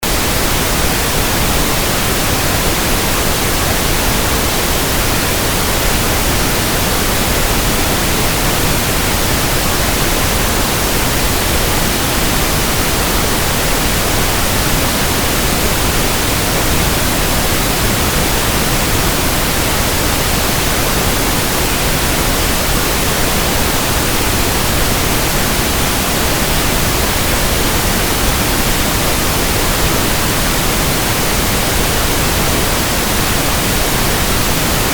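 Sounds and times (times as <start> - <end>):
pink noise hiss: 0.0 - 34.9.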